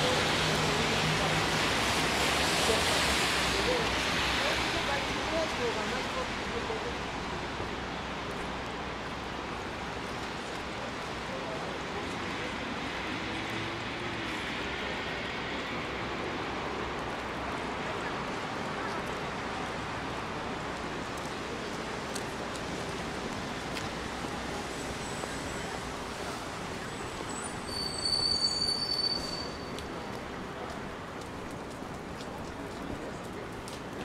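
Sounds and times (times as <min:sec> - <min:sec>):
wet street traffic: 0:00.0 - 0:34.0.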